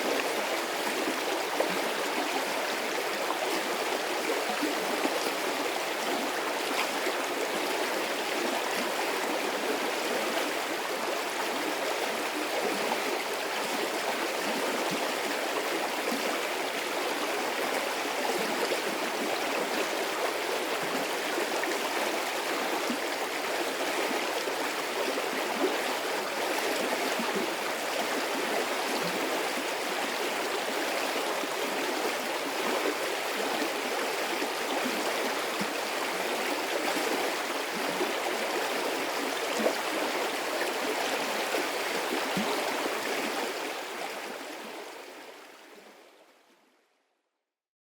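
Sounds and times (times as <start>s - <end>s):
stream babbling over rocks: 0.0s - 45.5s.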